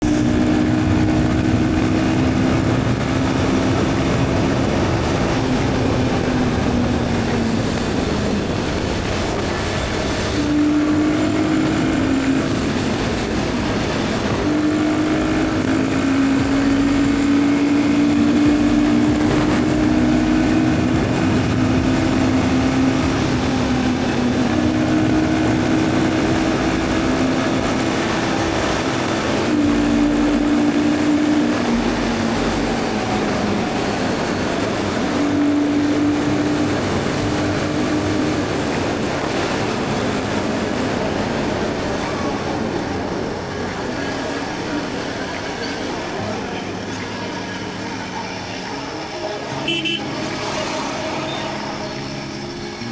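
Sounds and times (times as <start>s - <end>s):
motorcycle engine running: 0.0s - 52.9s
rushing wind noise: 0.0s - 52.9s.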